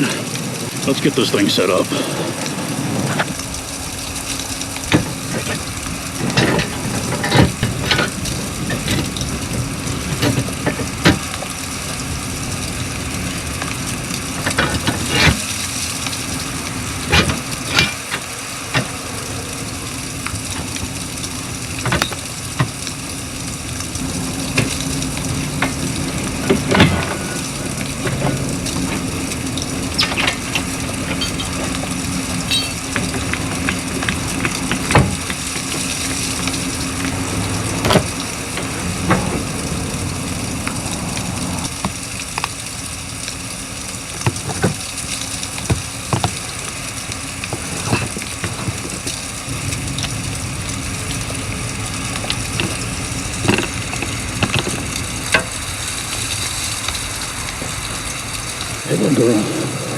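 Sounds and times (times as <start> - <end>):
wind and blowing snow hiss: 0.0 - 59.9.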